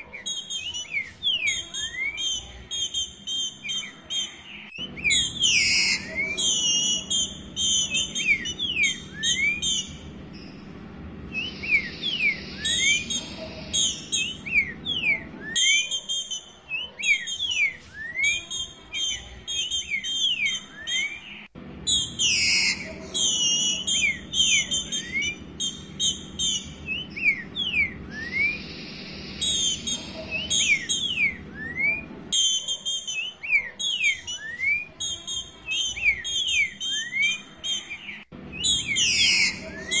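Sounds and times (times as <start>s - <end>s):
bird whistled chirps: 0.0s - 10.7s, 11.3s - 40.0s.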